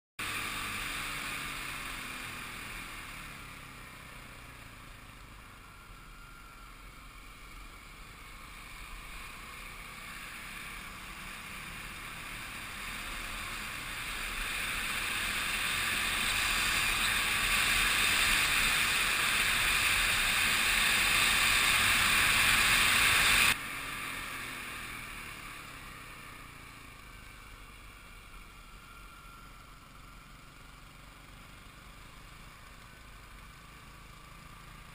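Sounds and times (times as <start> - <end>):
dirt bike engine running: 0.2 - 34.9.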